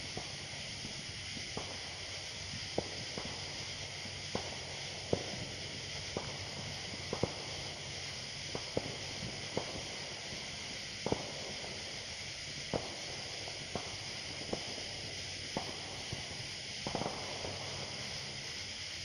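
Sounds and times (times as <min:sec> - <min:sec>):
distant firecrackers popping: 0:00.0 - 0:19.0
steady hiss: 0:00.0 - 0:19.0.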